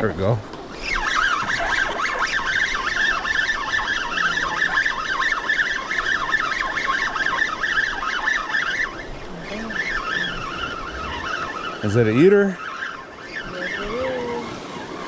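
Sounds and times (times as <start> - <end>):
fishing reel gears whirring: 0.7 - 15.0.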